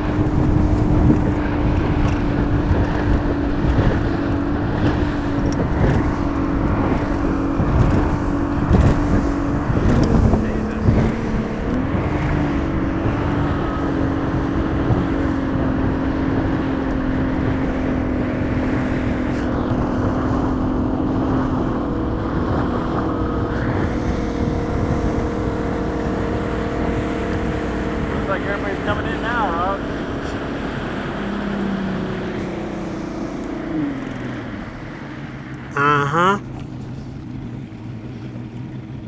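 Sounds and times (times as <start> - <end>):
wind on microphone: 0.0 - 35.8
outboard motor running: 0.0 - 39.0.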